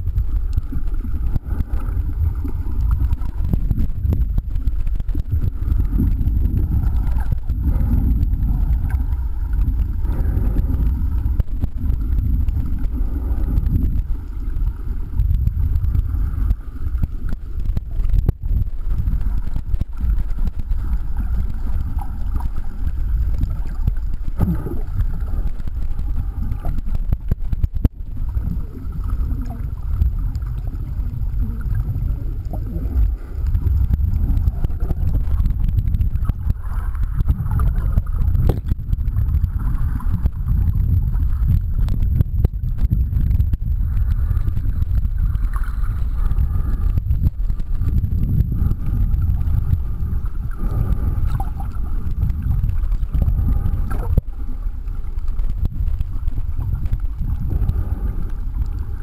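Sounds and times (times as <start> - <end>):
muffled underwater water rumble: 0.0 - 59.0.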